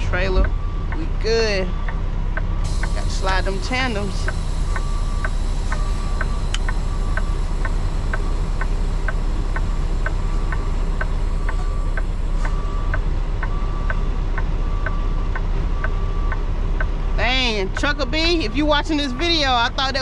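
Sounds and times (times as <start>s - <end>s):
diesel engine idling: 0.0s - 20.0s
indicator flasher ticking: 1.8s - 20.0s.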